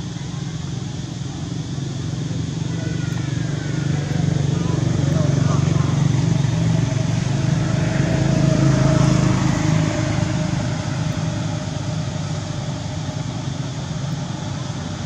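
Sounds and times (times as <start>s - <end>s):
motor engine drone: 0.0s - 15.0s.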